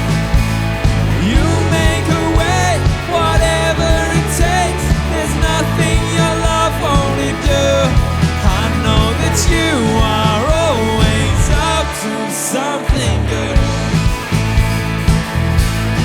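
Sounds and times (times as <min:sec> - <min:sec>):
worship song played by band: 0:00.0 - 0:16.0.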